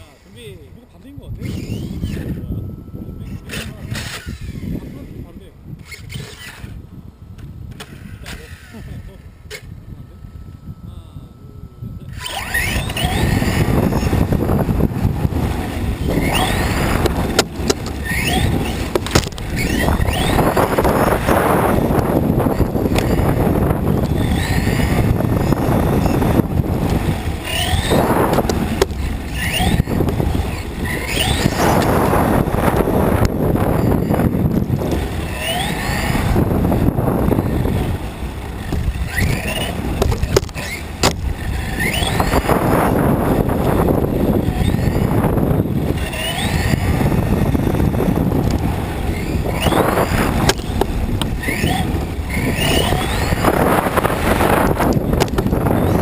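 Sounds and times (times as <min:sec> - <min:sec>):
electric motor whine: 0:00.0 - 0:56.0
rumble of tyres and wind: 0:00.0 - 0:56.0.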